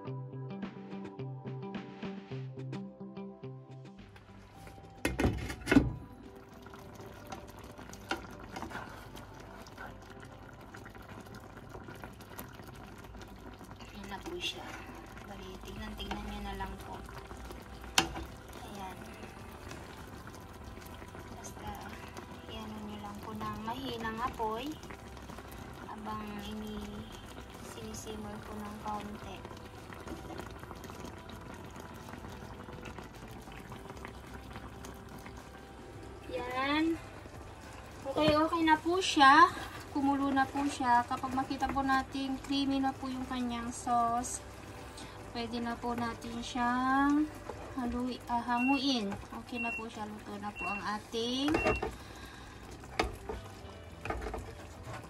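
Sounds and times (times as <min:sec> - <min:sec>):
sauce simmering and popping: 0:04.0 - 0:55.0.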